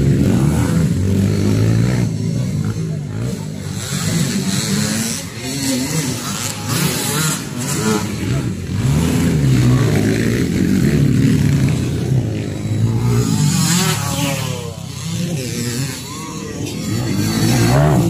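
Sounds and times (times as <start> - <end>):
motocross motorcycles revving: 0.0 - 18.0.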